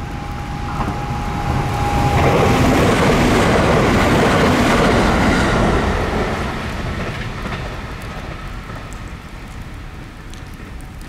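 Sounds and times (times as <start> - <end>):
electric train passing: 0.0 - 10.0
rain: 0.0 - 11.0.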